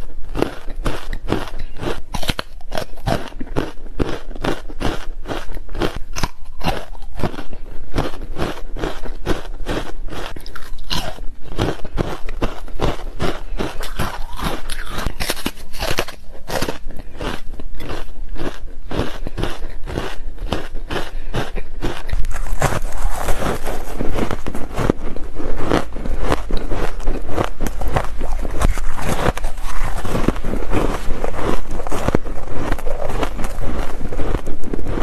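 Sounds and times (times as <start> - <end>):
ice being chewed crunching: 0.0 - 35.0.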